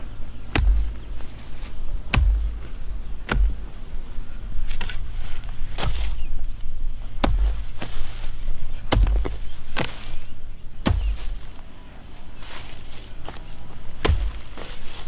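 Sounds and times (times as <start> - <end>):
hoe chopping into dry soil: 0.5 - 3.9, 4.6 - 6.4, 7.1 - 11.6, 12.4 - 15.0.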